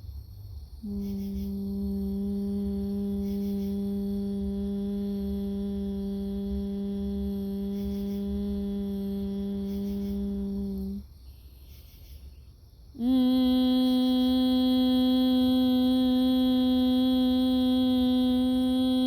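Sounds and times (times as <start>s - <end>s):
woman humming a held note: 0.8s - 11.1s, 13.0s - 19.0s.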